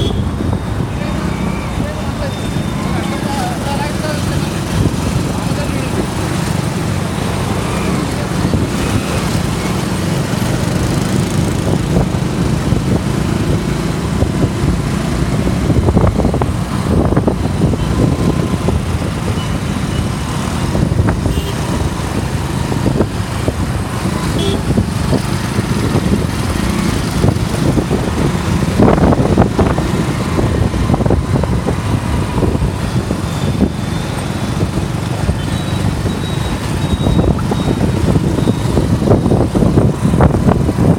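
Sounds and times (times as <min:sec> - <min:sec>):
vehicle engines and road noise: 0:00.0 - 0:40.9.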